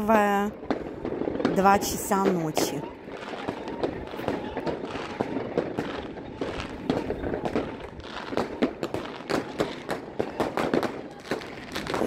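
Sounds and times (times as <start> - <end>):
fireworks cracking and banging: 0.0 - 12.0.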